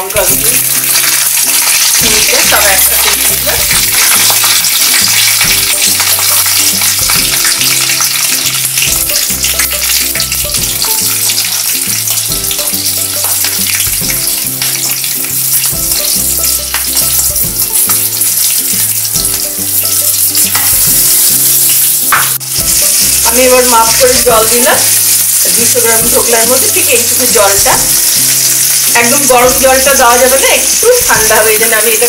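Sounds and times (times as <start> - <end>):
background music: 0.0 - 32.0
seeds and chillies sizzling in oil: 0.0 - 32.0
metal spatula stirring: 0.1 - 31.4.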